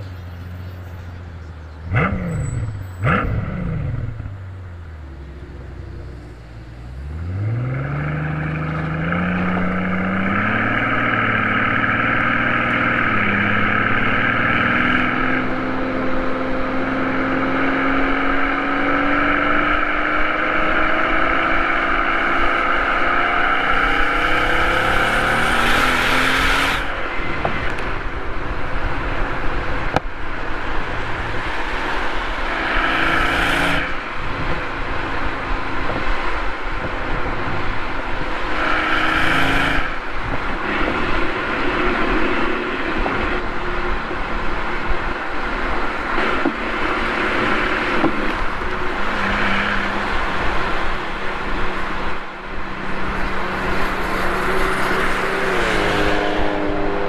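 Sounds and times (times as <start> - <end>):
car engine blipping and accelerating: 0.0 - 57.0.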